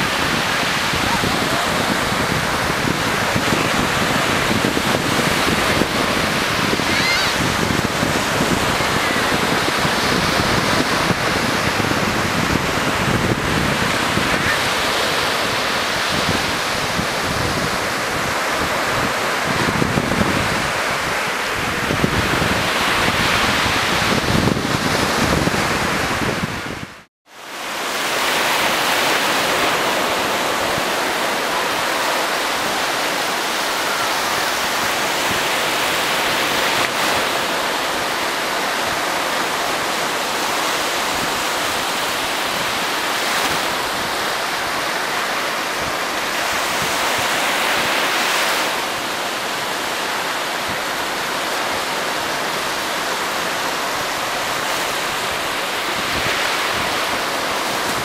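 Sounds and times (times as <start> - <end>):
sea waves washing on sand: 0.0 - 58.0.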